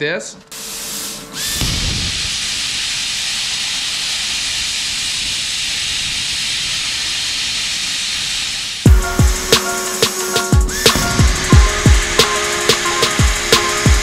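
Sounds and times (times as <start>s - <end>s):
plasma cutter hissing: 0.5s - 14.0s.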